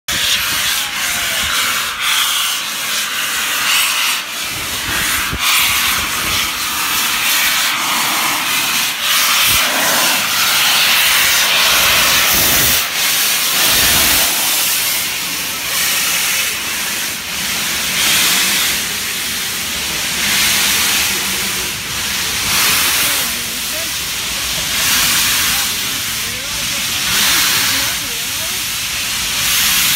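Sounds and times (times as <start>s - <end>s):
steam locomotive venting steam: 0.1s - 29.9s.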